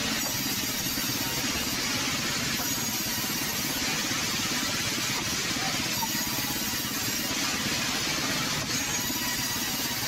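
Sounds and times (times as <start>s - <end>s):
band saw cutting through log: 0.0s - 10.0s.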